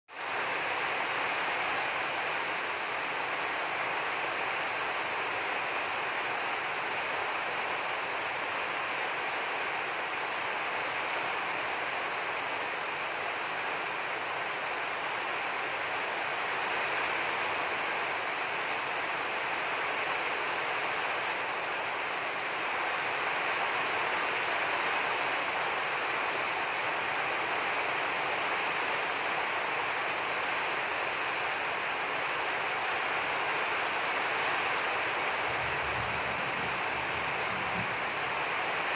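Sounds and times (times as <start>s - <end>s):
steady rushing hiss: 0.1s - 38.9s.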